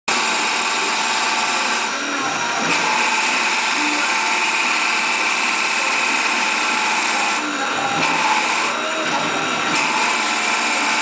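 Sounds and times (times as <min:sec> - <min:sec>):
machine spindle whine: 0:00.1 - 0:11.0
tool cutting wood: 0:00.1 - 0:11.0.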